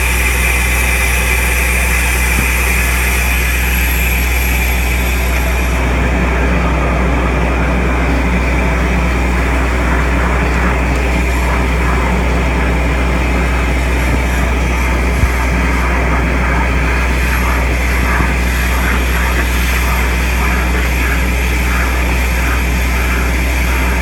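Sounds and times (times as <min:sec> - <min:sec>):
vacuum excavator suction: 0:00.0 - 0:24.0.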